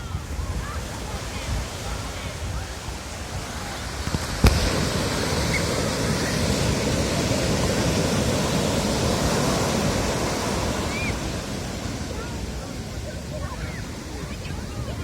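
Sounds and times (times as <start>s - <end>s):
ocean surf washing on shore: 0.0s - 15.0s.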